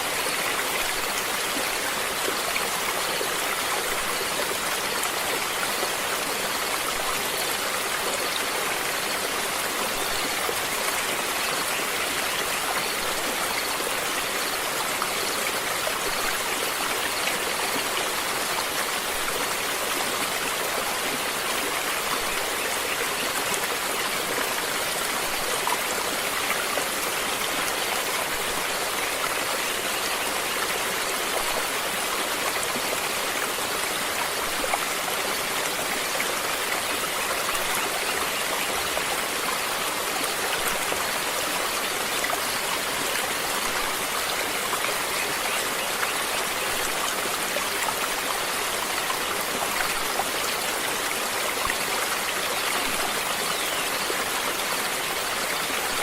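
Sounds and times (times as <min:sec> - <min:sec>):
stream water over rocks: 0:00.0 - 0:56.0.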